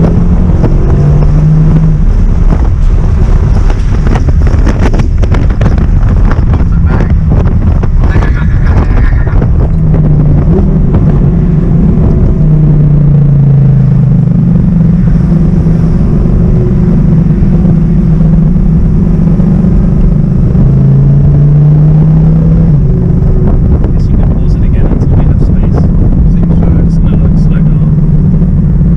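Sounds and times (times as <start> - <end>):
car engine drone: 0.0 - 28.9.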